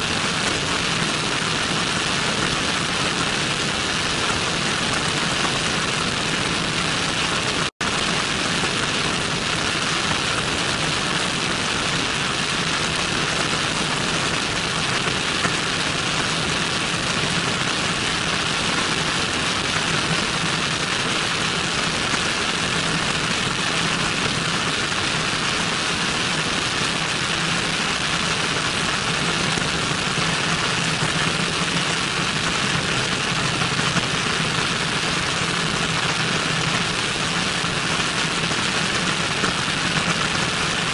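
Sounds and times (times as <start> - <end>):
airplane engine and propeller drone: 0.0 - 40.9.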